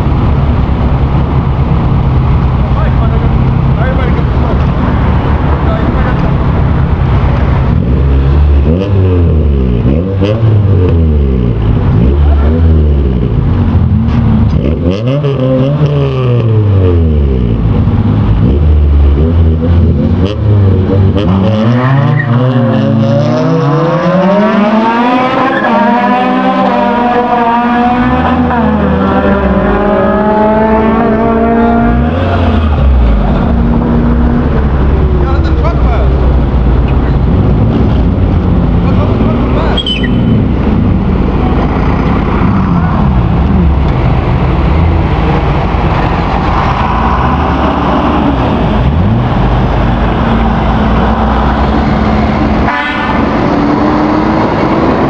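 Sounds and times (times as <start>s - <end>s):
car engine accelerating through gears: 0.0s - 55.0s
car engines revving: 0.0s - 55.0s.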